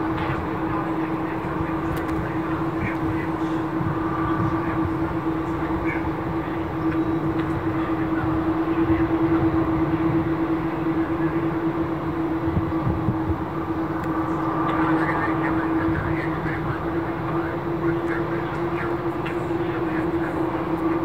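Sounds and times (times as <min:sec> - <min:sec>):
high engine whine: 0:00.0 - 0:21.0
jet engines humming: 0:00.0 - 0:21.0.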